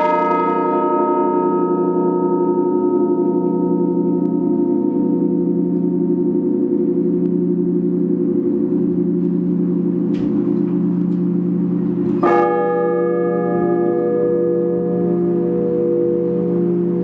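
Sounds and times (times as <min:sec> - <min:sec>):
deep church bell hum: 0:00.0 - 0:17.0.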